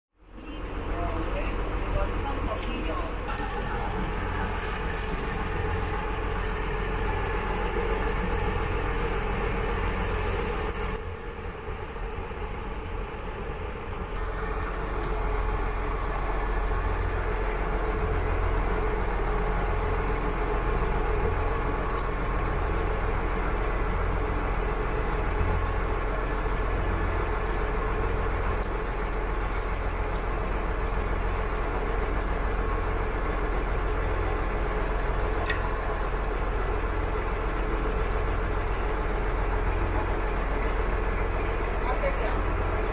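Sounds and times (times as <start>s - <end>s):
boat engine droning: 0.2s - 42.9s.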